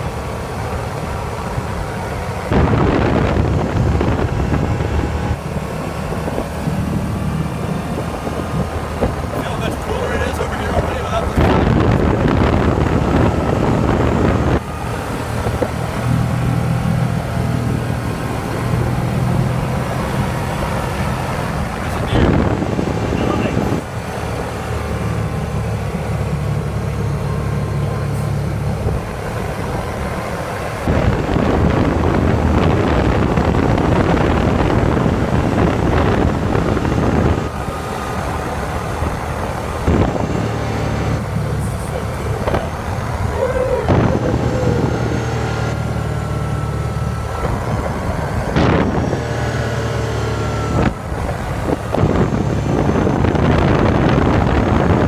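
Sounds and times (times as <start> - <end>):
vehicle engine hum: 0.0 - 55.0
wind and tyre rush: 0.0 - 55.0.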